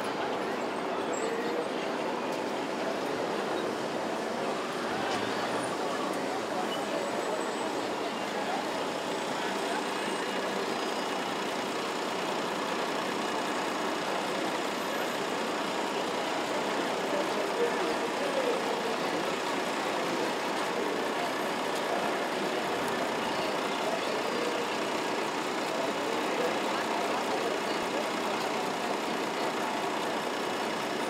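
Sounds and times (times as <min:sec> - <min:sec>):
indistinct chatter: 0:00.0 - 0:31.0
traffic hum: 0:00.0 - 0:31.0.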